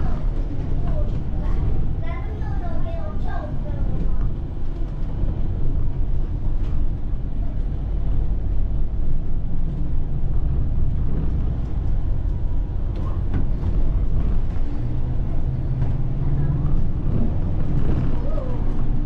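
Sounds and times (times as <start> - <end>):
bus diesel engine drone: 0.0 - 19.0
road rumble: 0.0 - 19.0.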